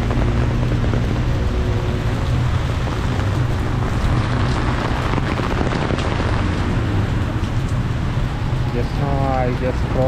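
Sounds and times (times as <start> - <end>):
heavy rain pouring: 0.0 - 10.0
road traffic rumble: 0.0 - 10.0.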